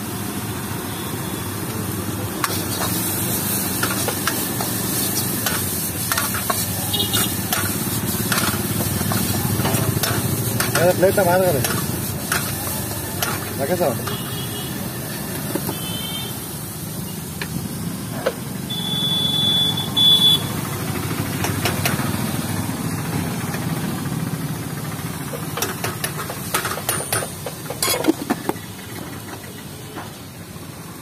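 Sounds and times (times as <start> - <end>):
vehicle engines rumbling: 0.0 - 31.0.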